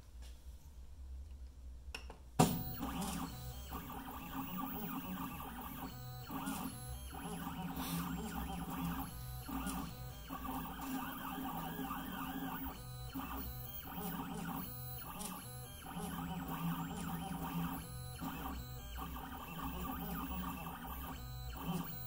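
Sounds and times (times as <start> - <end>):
stepper motors whining: 2.5 - 22.0.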